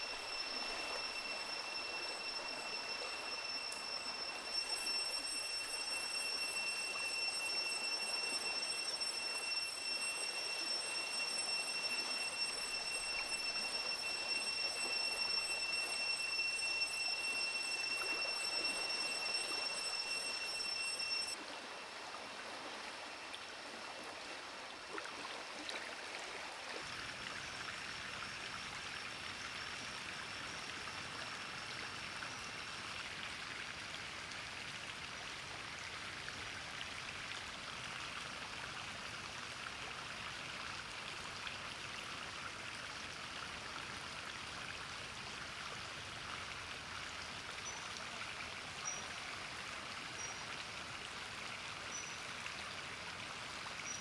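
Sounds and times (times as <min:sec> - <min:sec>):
stream running over its bed: 0:00.0 - 0:54.0.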